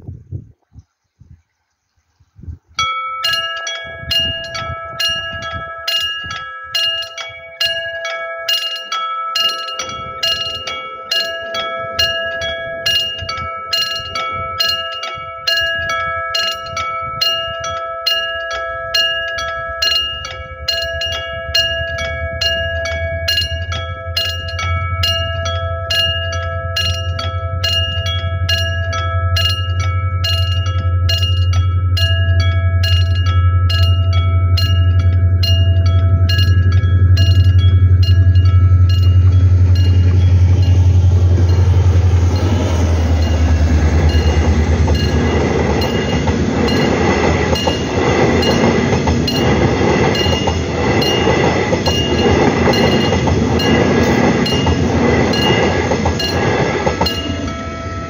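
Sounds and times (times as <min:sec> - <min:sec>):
level crossing warning bell: 0:02.8 - 0:58.0
approaching train rumble: 0:03.2 - 0:58.0.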